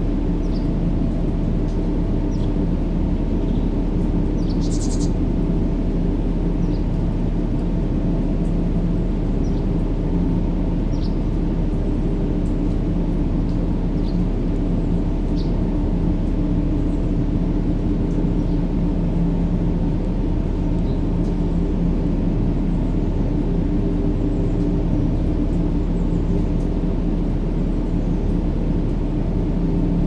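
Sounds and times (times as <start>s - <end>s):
deep rumbling white noise: 0.0s - 30.0s.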